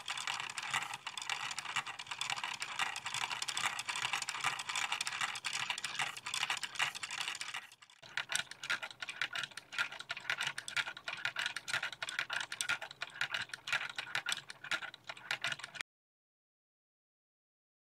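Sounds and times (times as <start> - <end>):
plastic gears clattering: 0.0 - 15.8.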